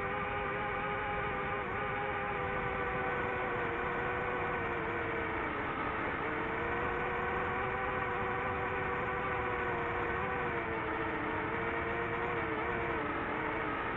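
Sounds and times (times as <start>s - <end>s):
drone propellers whining: 0.0s - 13.9s.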